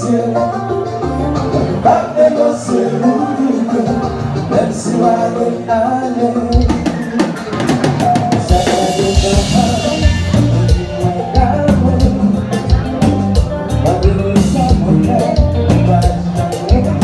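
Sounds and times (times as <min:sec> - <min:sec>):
male singer: 0:00.0 - 0:07.3, 0:08.0 - 0:17.0
bass guitar: 0:00.0 - 0:17.0
drum kit: 0:00.0 - 0:17.0.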